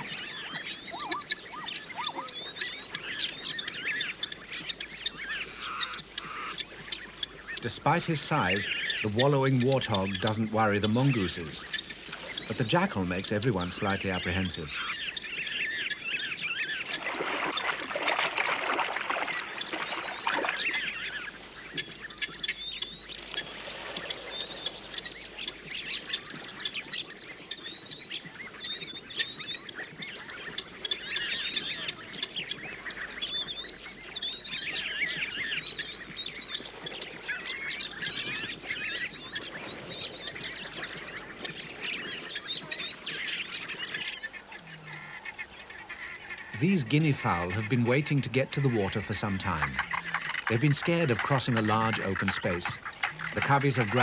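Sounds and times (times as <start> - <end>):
guineafowl cackling calls: 0.0 - 27.7, 29.3 - 54.0.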